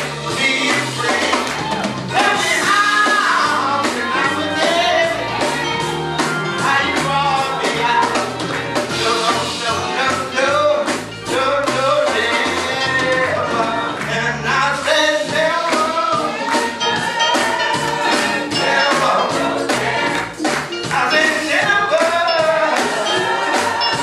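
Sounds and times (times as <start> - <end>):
band with steady beat: 0.0 - 24.0
gospel singing: 0.0 - 24.0.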